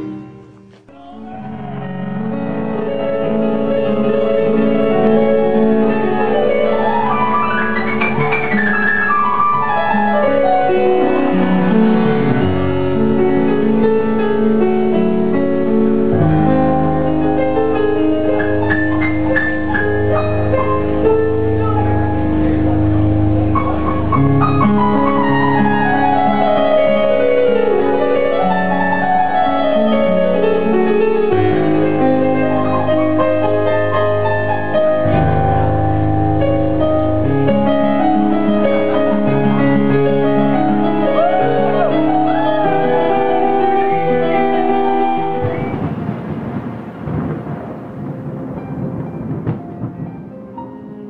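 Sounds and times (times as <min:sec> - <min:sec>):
keyboard piano solo: 0:00.0 - 0:51.0.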